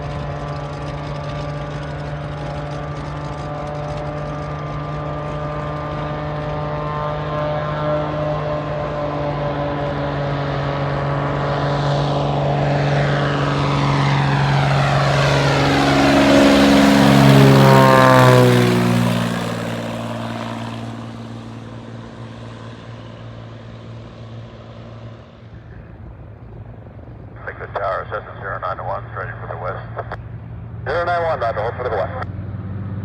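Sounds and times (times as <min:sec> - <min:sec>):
propeller plane passing: 0:00.0 - 0:33.0.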